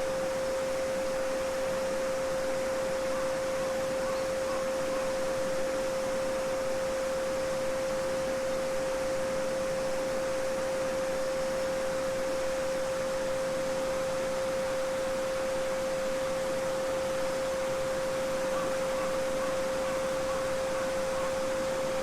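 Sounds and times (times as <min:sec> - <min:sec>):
steady sine tone: 0:00.0 - 0:22.0.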